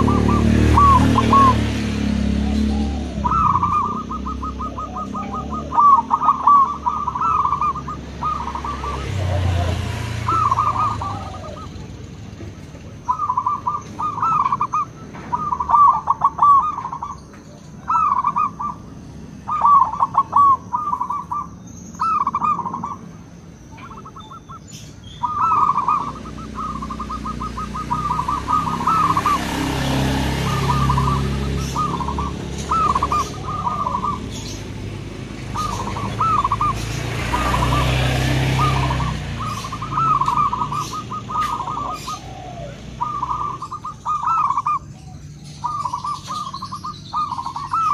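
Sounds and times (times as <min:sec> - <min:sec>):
dove cooing: 0:00.0 - 0:12.0, 0:12.7 - 0:47.9.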